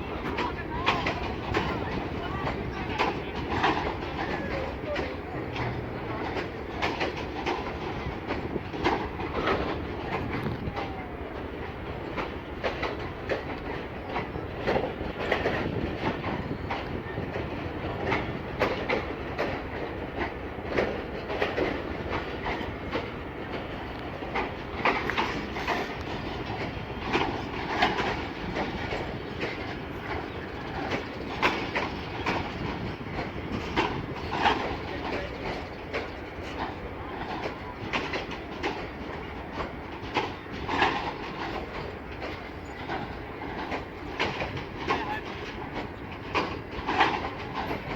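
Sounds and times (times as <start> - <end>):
train rumbling on track: 0.0 - 47.9
wheels clacking over rail joints: 0.0 - 47.9.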